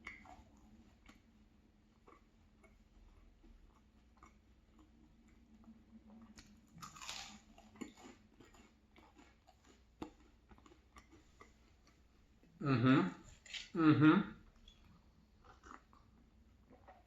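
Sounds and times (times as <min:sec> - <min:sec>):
person chewing crunchy toast: 0:00.0 - 0:12.4, 0:14.8 - 0:17.0.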